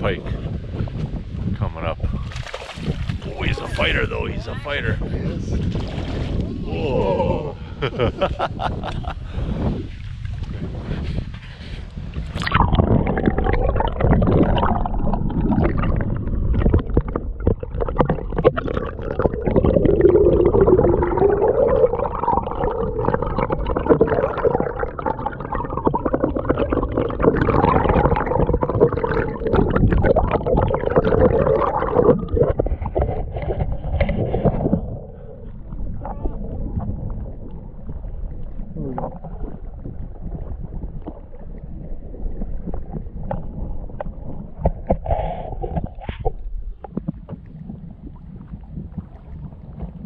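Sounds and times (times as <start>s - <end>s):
water noise: 0.0s - 50.0s.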